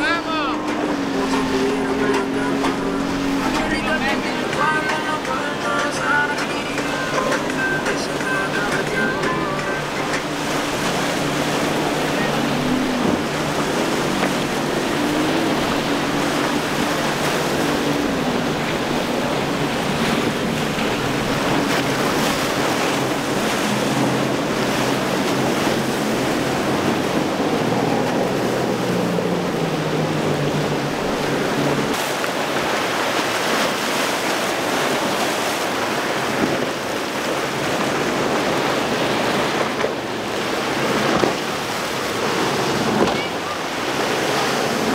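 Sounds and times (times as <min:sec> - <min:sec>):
outboard motor humming: 0:00.0 - 0:44.9
waves breaking and churning: 0:00.0 - 0:44.9.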